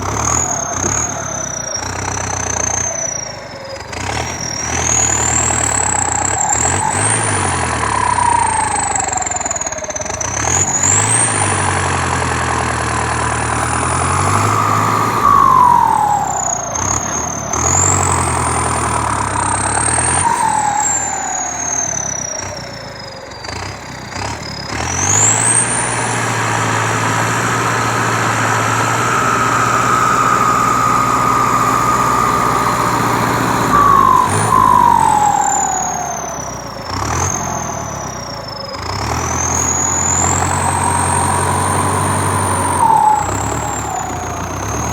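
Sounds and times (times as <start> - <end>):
rising and falling whine: 0.0 - 23.3, 25.0 - 44.9
heavy vehicle engine revving: 0.0 - 44.9.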